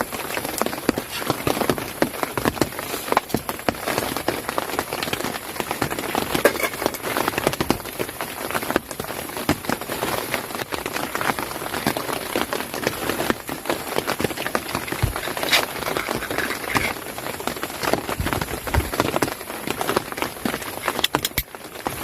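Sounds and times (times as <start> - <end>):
rain falling on a tent: 0.0 - 22.0.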